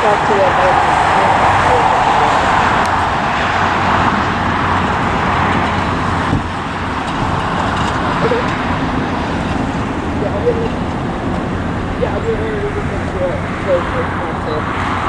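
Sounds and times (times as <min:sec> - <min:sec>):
engine roar: 0:00.0 - 0:15.0.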